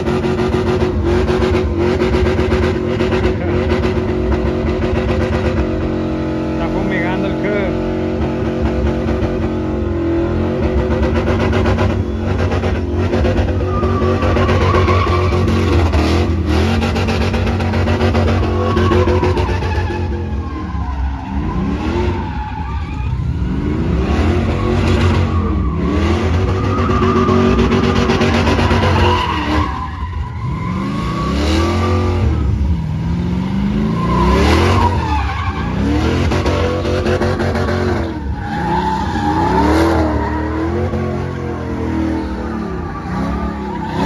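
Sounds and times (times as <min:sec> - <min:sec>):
spinning tyres squealing: 0:00.0 - 0:44.0
truck engine revving hard: 0:00.0 - 0:44.0.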